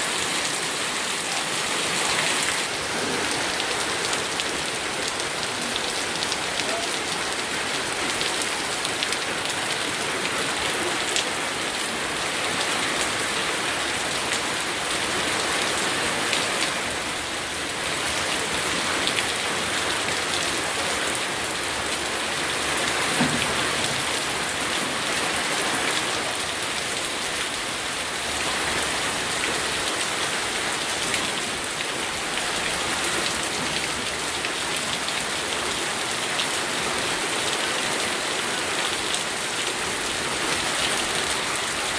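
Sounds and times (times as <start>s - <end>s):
rain pattering: 0.0s - 41.9s.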